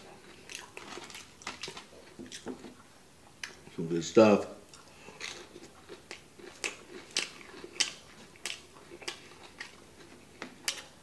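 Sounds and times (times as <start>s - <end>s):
crunchy chewing: 0.0s - 3.7s, 4.7s - 11.0s.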